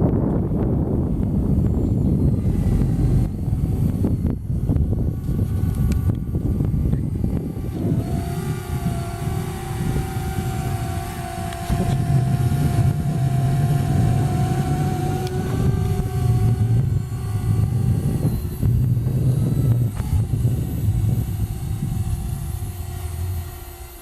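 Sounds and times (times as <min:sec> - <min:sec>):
drone propellers whining: 0:00.0 - 0:24.0
wind on microphone: 0:00.0 - 0:24.0.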